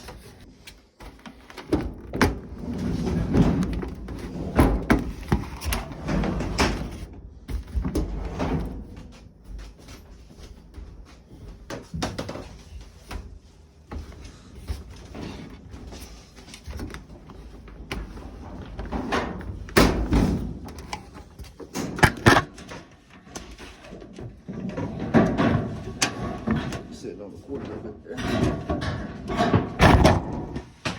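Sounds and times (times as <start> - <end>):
metal dryer cabinet knocking and scraping: 1.1 - 10.5, 11.4 - 30.9.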